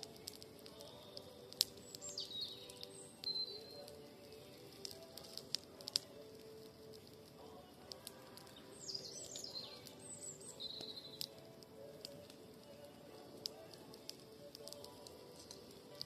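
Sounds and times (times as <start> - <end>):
campfire crackling and popping: 0.0 - 16.0
small birds chirping: 0.0 - 16.0.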